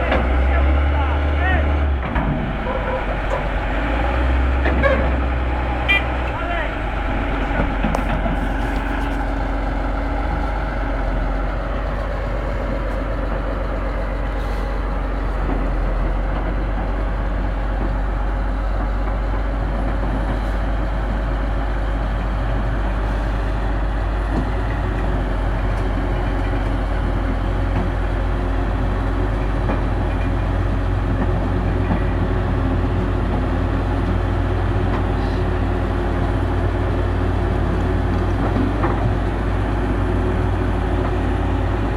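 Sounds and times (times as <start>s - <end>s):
heavy diesel engines droning: 0.0s - 41.9s.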